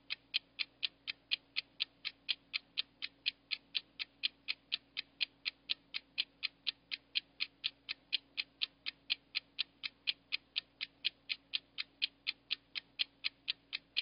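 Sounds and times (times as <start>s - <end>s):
stopwatch ticking: 0.0s - 14.0s.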